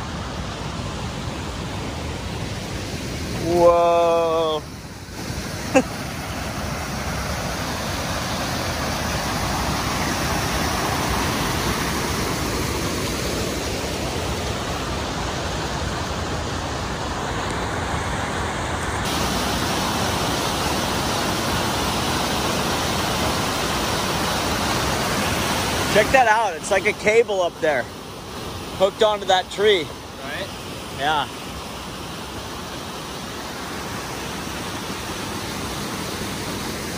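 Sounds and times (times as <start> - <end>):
creek rushing over rocks: 0.0 - 36.9.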